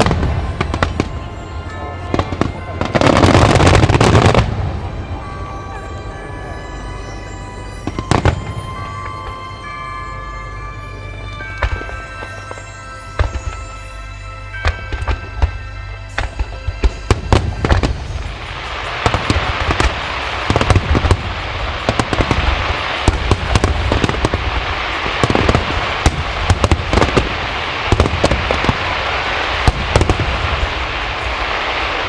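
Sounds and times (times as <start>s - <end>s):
fireworks bursting with sharp bangs: 0.0s - 9.9s, 11.3s - 32.0s
music: 0.0s - 32.0s
rushing crackle of fireworks: 0.0s - 32.0s.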